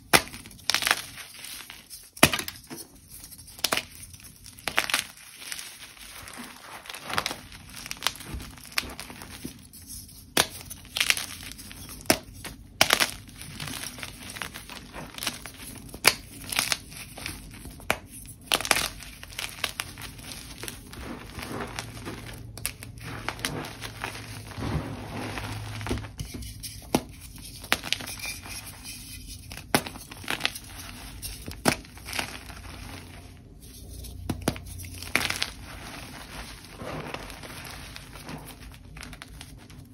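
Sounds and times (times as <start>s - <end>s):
chalk crushed by hand crunching: 0.0s - 39.9s.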